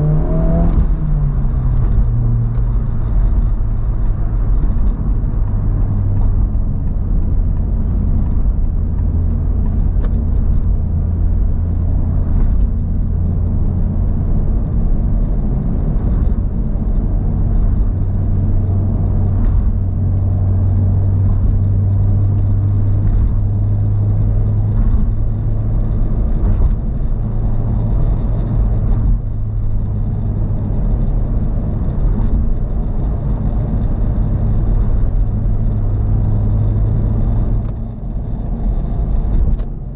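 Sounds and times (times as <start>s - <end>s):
car engine and road noise drone: 0.0s - 39.9s.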